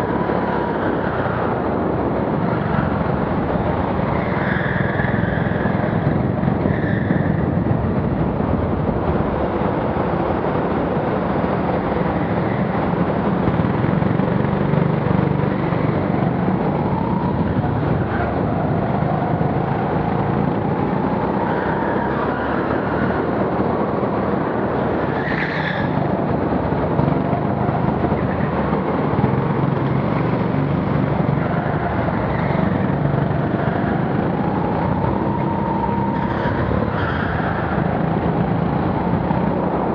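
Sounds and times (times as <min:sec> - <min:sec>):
go-kart engine: 0:00.0 - 0:39.9.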